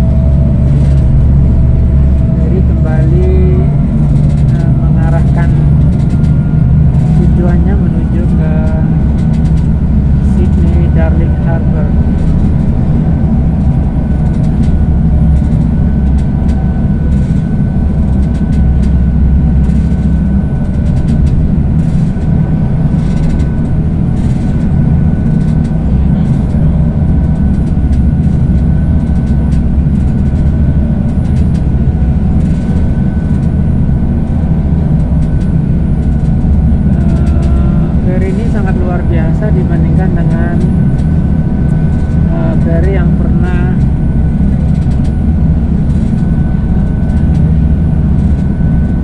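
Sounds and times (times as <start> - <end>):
ferry engines droning: 0.0 - 49.0
rushing wind: 0.0 - 49.0
thin steady whine: 0.0 - 49.0.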